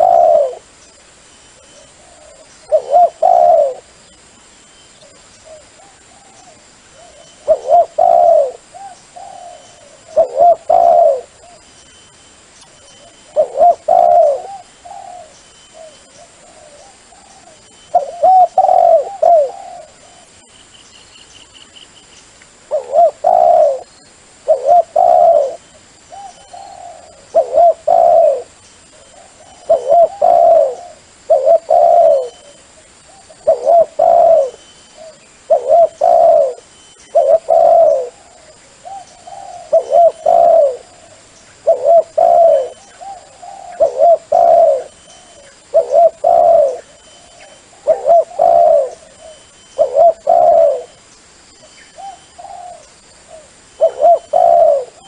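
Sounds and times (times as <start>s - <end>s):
dove cooing: 0.0s - 0.7s, 1.6s - 4.0s, 5.0s - 11.6s, 12.8s - 20.5s, 22.7s - 51.1s, 51.9s - 55.0s.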